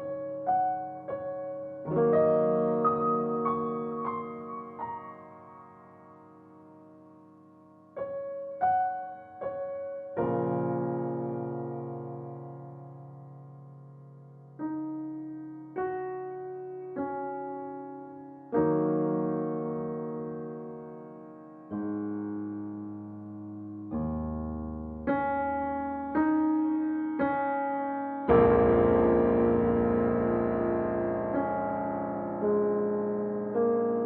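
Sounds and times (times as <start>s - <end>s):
slow piano chords: 0.0s - 34.0s.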